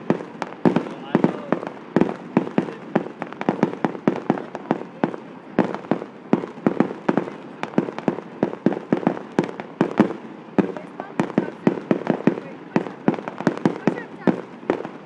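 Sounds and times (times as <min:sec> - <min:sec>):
fireworks banging: 0:00.0 - 0:15.0.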